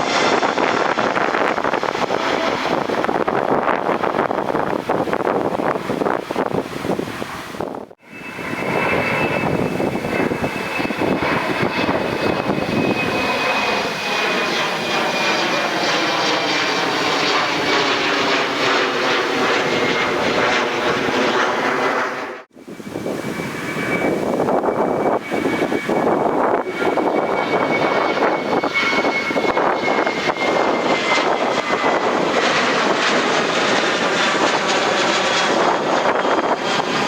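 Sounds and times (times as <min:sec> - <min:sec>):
jet engines whining: 0:00.0 - 0:37.0.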